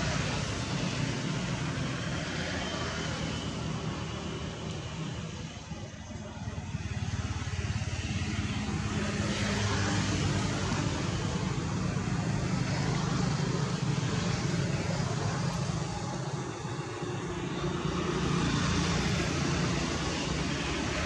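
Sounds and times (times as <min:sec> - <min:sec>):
distant engine droning: 0:00.0 - 0:21.0.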